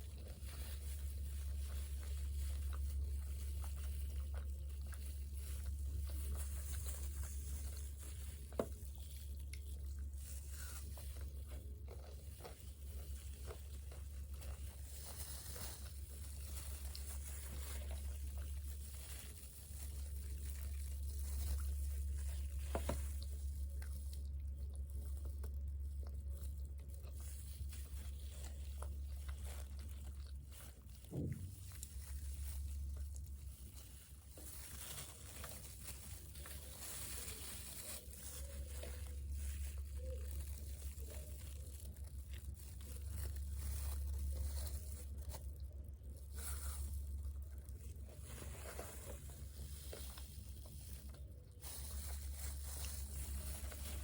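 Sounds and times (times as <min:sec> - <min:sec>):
chewing and crunching food: 0:00.0 - 0:54.0
steady low hum: 0:00.0 - 0:54.0.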